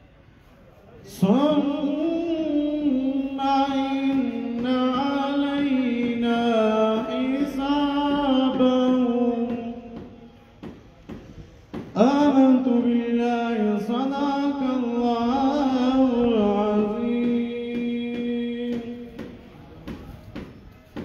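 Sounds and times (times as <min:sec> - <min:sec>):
man chanting melodic recitation: 0:01.0 - 0:10.7, 0:11.8 - 0:20.3.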